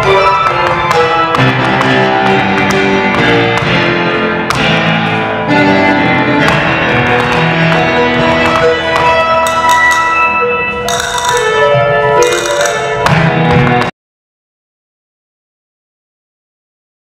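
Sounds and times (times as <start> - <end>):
instrumental dance music: 0.0 - 13.9.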